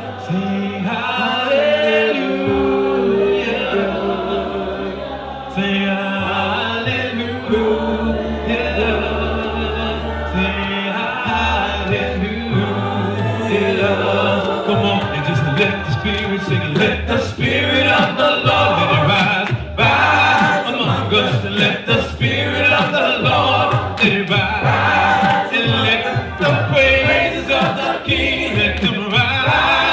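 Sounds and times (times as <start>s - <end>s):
choir and congregation singing: 0.0s - 29.9s
low instrumental accompaniment: 0.0s - 29.9s.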